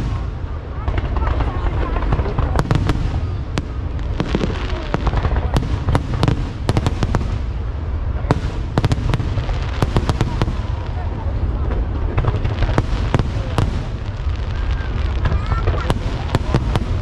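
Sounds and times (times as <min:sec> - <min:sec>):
continuous low rumble: 0:00.0 - 0:17.0
firework bangs and crackling pops: 0:00.0 - 0:17.0.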